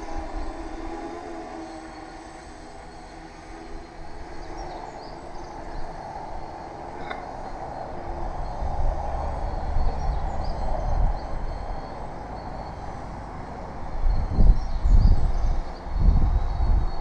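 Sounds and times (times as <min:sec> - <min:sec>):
drone propellers whirring: 0:00.0 - 0:17.0.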